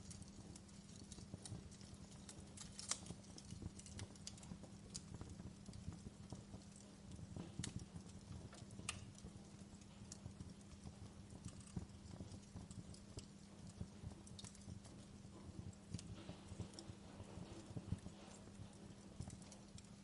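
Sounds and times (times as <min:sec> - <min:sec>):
faint steady hum: 0:00.0 - 0:20.0
wood fire crackling: 0:00.0 - 0:20.0.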